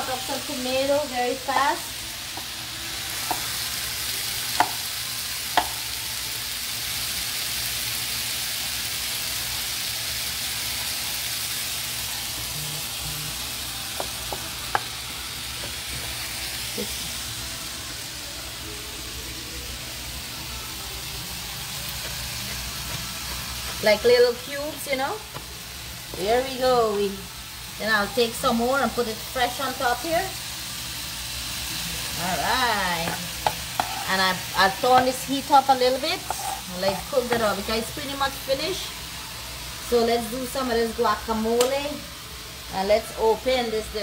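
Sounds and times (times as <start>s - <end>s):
meat sizzling in a pan: 0.0s - 44.0s.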